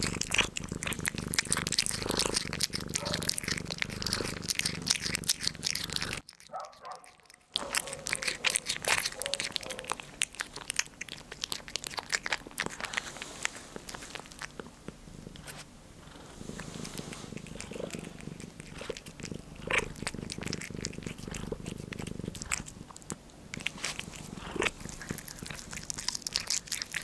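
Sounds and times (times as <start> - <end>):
cat licking and chewing: 0.0 - 27.0
cat purring: 0.0 - 27.0.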